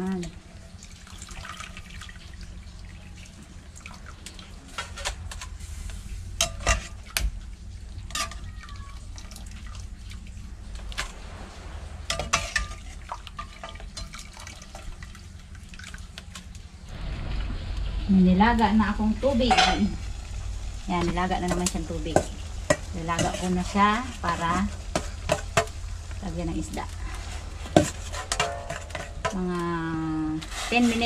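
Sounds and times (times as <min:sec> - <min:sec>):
water dripping and splashing: 0:00.0 - 0:17.9, 0:19.2 - 0:30.5.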